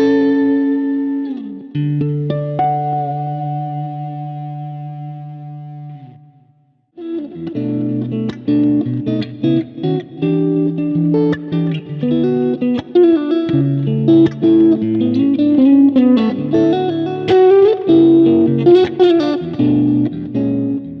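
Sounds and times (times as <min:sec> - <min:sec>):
electric guitar riff: 0:00.0 - 0:21.0.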